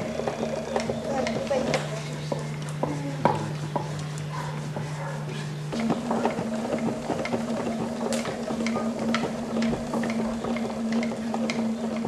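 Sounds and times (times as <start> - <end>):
spinning wheel humming and clicking: 0.0 - 12.0.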